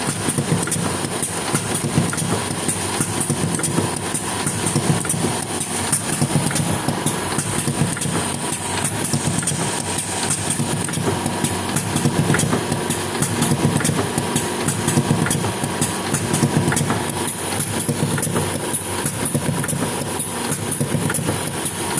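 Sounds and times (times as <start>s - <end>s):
engine idling: 0.0s - 21.9s.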